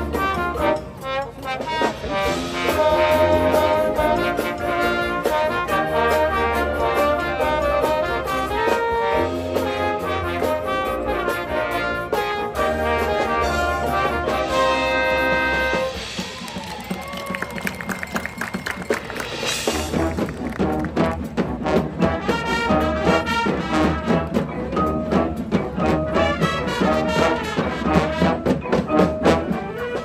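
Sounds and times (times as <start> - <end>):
low percussion: 0.0 - 30.0
marching band brass chords: 0.0 - 30.0.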